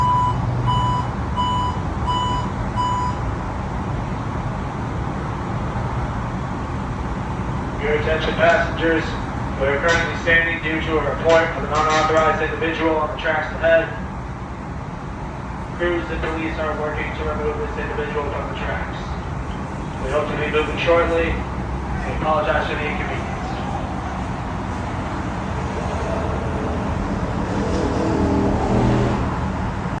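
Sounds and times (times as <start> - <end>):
low train hum: 0.0 - 30.0.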